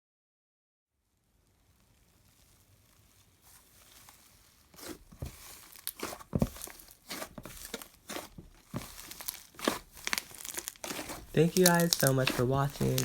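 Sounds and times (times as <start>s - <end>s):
slime squeezed crackling and popping: 2.0s - 13.0s.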